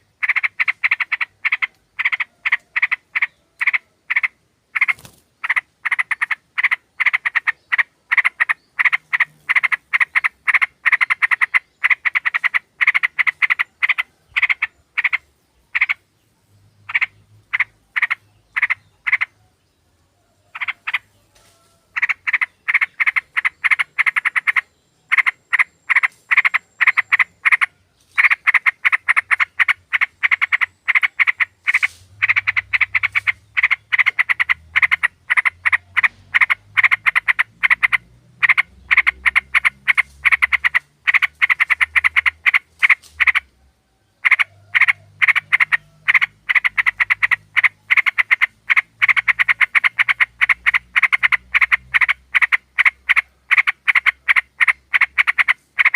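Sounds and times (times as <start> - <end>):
bird harsh chattering call: 0.0 - 16.0, 16.9 - 19.3, 20.5 - 21.1, 22.0 - 43.5, 44.2 - 55.9.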